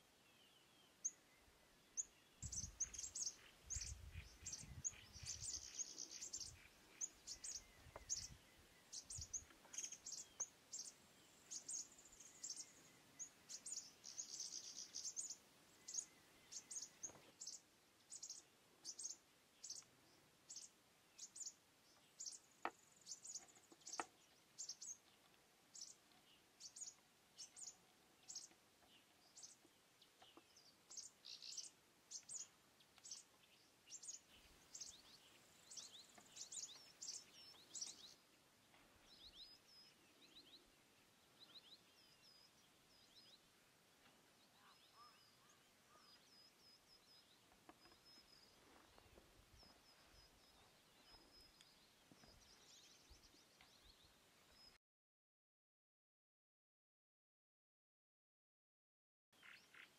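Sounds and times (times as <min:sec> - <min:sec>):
faint small bird chirping: 0:00.0 - 0:54.8, 0:59.4 - 0:59.9.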